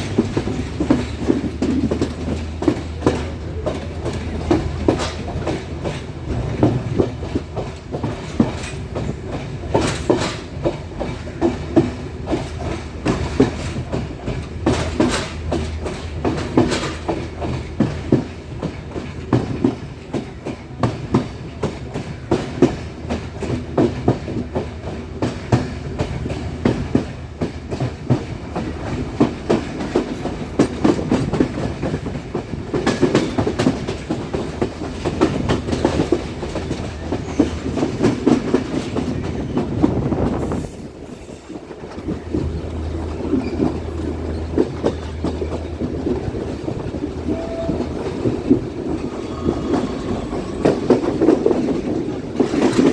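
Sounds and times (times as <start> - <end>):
train rumble: 0.0 - 52.9
train wheels clicking over rail joints: 0.0 - 52.9.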